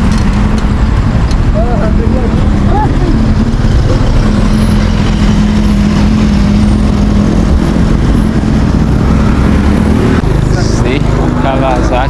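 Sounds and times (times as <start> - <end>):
passing traffic engine hum: 0.0 - 12.0.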